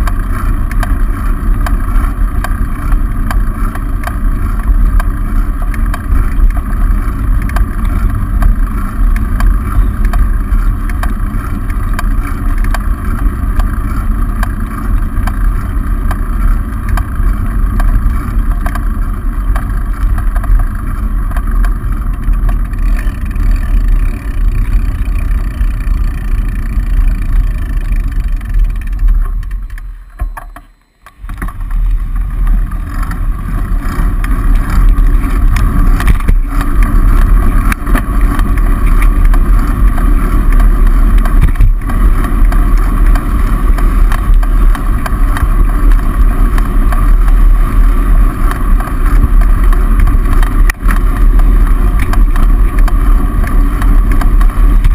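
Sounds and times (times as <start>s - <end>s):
wind rumble: 0.0s - 30.5s, 31.2s - 54.9s
road vibration: 0.0s - 54.9s.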